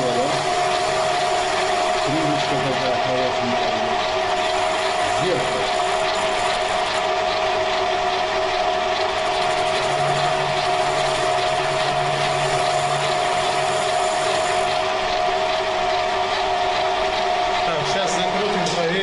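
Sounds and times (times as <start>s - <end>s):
lathe gears whining: 0.0s - 19.0s.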